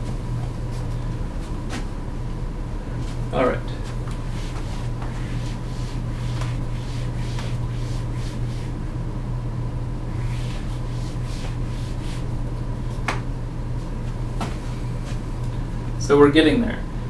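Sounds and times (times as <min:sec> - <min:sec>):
low electrical hum and hiss: 0:00.0 - 0:17.0.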